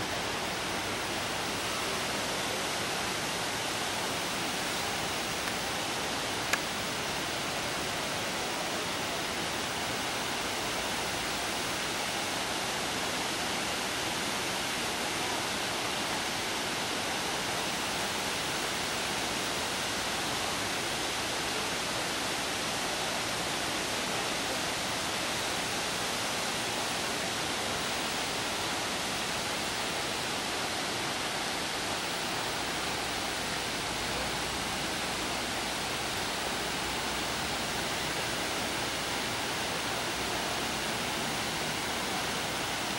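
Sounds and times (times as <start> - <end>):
waterfall rushing over rocks: 0.0 - 42.9.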